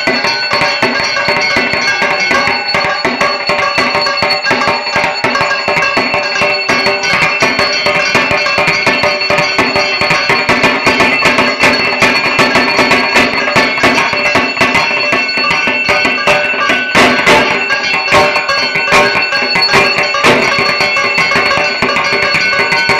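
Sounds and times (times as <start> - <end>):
barrel drum beaten fast: 0.0 - 22.9
steady high ringing: 0.0 - 22.9.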